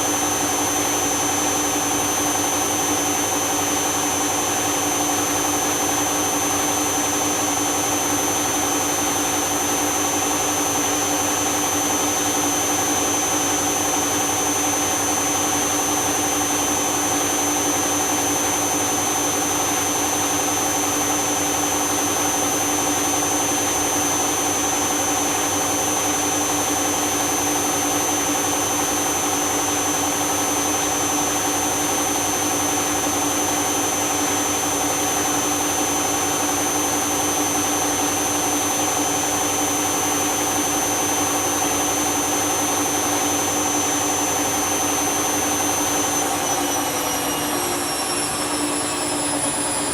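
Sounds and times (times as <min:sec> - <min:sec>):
washing machine motor whine: 0:00.0 - 0:49.9.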